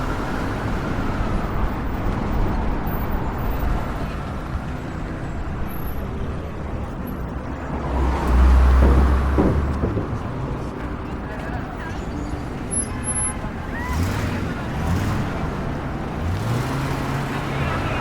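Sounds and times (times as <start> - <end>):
heavy vehicle rumble: 0.0 - 18.0
passing cars: 0.0 - 18.0.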